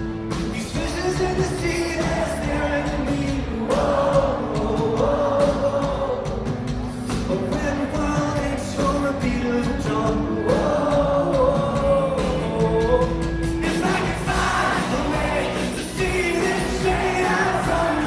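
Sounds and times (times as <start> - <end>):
backing band playing: 0.0 - 18.0.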